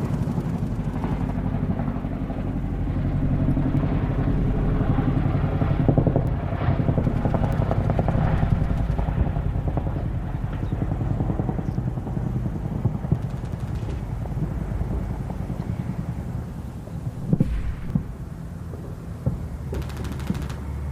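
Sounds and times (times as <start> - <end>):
low rumble with engine drone: 0.0 - 20.9.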